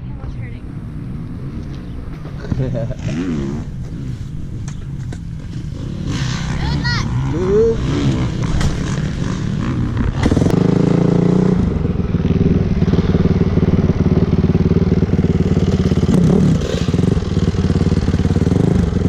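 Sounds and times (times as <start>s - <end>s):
dirt bike engine running: 0.8s - 19.0s.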